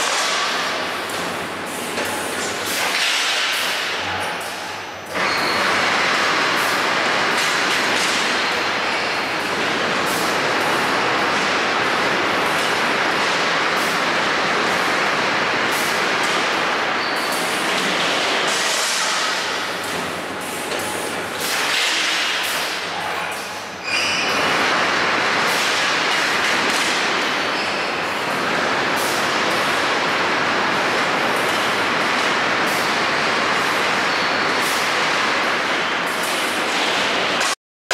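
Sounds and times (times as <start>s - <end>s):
bar bending machine running: 0.0s - 37.6s.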